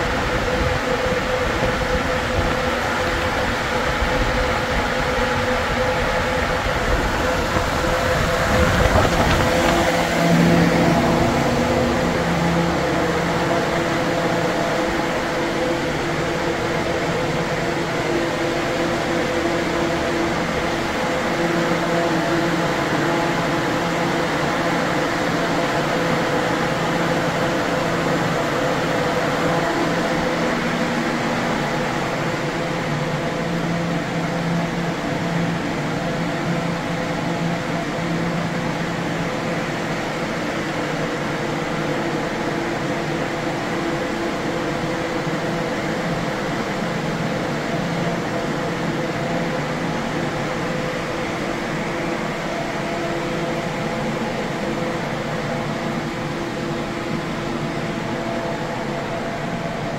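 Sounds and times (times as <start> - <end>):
low hum with held tones: 0.0 - 59.9.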